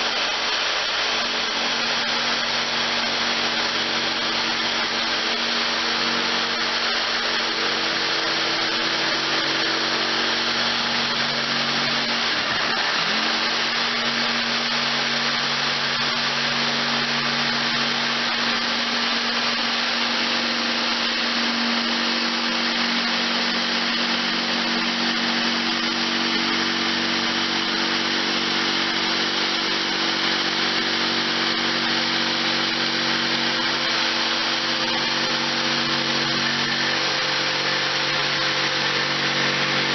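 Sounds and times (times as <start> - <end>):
electric power tool running: 0.0 - 39.9.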